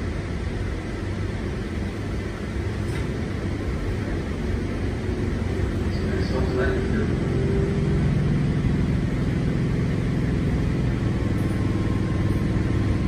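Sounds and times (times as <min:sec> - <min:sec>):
electric train running on track: 0:00.0 - 0:13.0.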